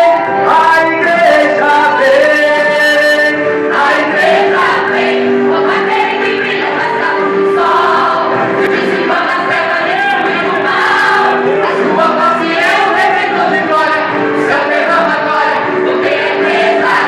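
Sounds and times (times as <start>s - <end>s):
vocal group singing worship song: 0.0s - 17.0s.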